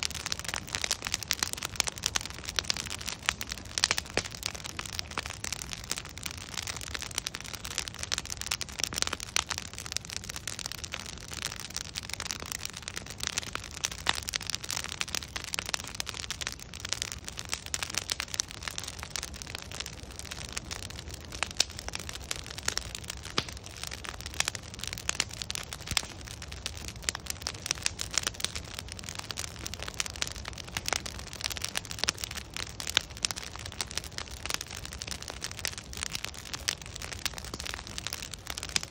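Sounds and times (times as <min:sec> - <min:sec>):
fire low rumble and hiss: 0:00.0 - 0:38.9
wood fire crackling and popping: 0:00.0 - 0:38.9.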